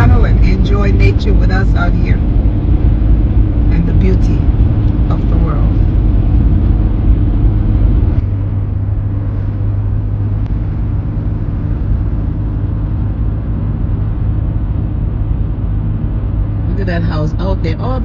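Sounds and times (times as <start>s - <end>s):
constant low hum: 0.0s - 18.0s
engine and tyre rumble: 0.0s - 18.0s.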